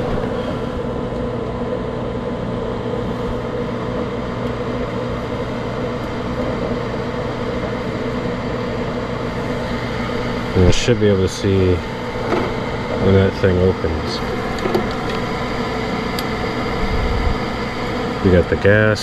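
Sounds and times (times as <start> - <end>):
furnace motor hum: 0.0 - 19.0.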